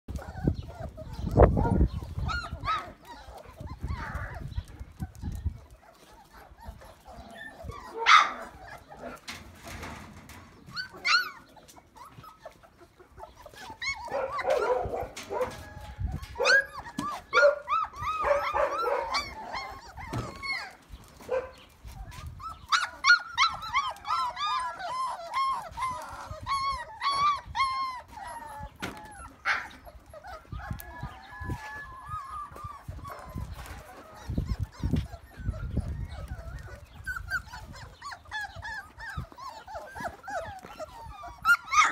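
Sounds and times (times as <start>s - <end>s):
puppies whining and yipping: 0.1s - 41.9s.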